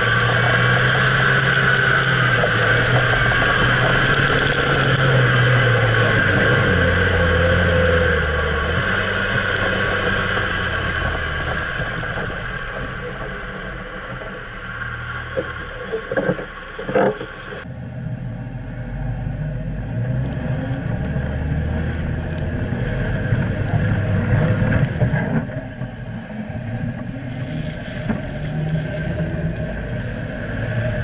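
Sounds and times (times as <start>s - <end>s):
engine and drivetrain rumble: 0.0s - 31.0s.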